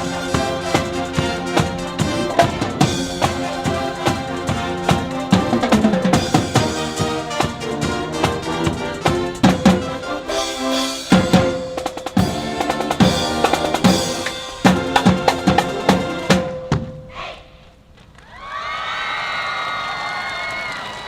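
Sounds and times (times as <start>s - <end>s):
bass and snare drums: 0.0s - 17.1s
brass: 0.0s - 17.4s.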